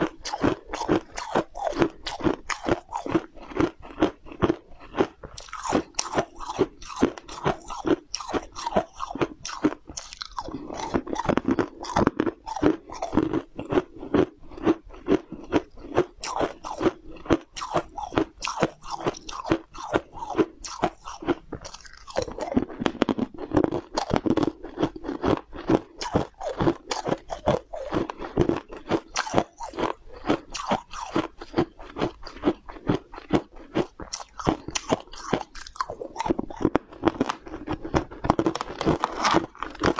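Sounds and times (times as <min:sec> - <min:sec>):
crunching food: 0:00.0 - 0:39.9
wet chewing: 0:00.0 - 0:39.9.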